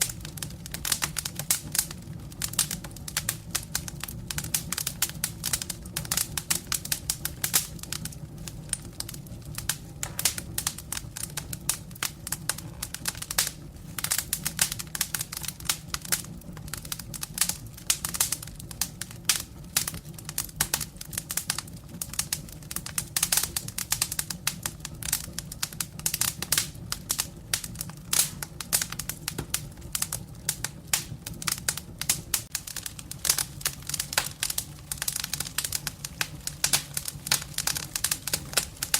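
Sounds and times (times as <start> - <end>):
logs crackling: 0.0 - 38.9
low rush of flames: 0.0 - 38.9.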